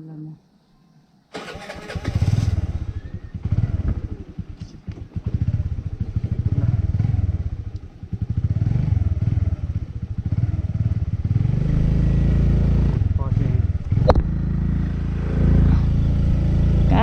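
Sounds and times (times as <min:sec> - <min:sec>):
motorbike engine revving: 0:01.3 - 0:17.0.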